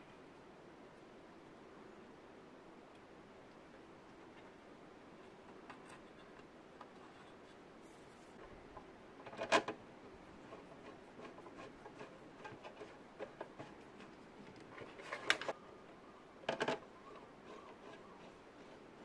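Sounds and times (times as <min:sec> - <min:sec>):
low steady hum: 0:00.0 - 0:19.0
faint clicks and handling noise: 0:02.8 - 0:19.0.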